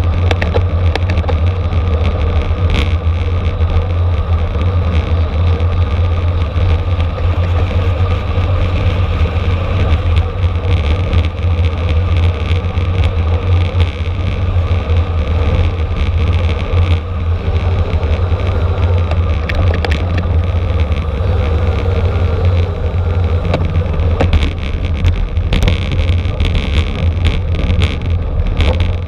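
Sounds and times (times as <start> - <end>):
bicycle clicks and crackles: 0.0 - 29.0
wind buffeting microphone: 0.0 - 29.0.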